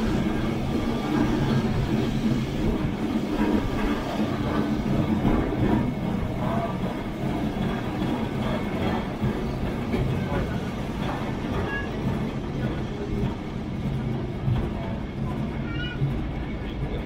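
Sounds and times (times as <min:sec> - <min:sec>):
tram wheels and motor rumbling: 0:00.0 - 0:17.0.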